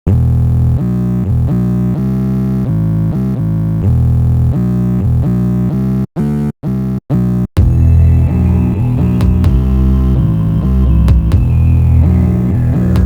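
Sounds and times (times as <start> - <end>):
deep synthesizer bass line: 0.1 - 13.0.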